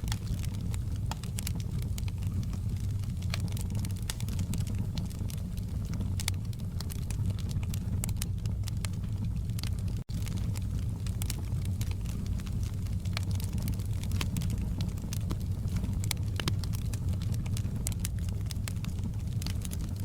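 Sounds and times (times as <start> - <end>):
log fire crackling and popping: 0.0 - 20.0
low rumble of flames: 0.0 - 20.0.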